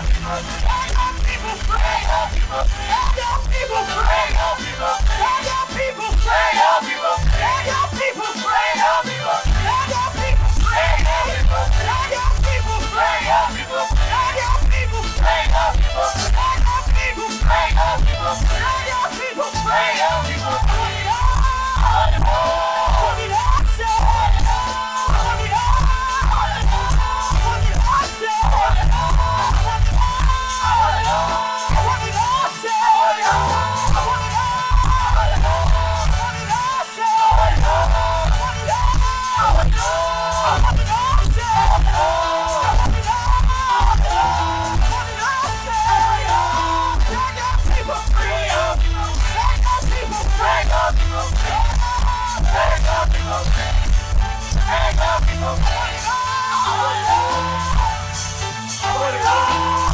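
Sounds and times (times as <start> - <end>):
choir singing: 0.0 - 59.9
full band with steady beat: 0.0 - 59.9
music with heavy pulsing bass: 0.0 - 59.9.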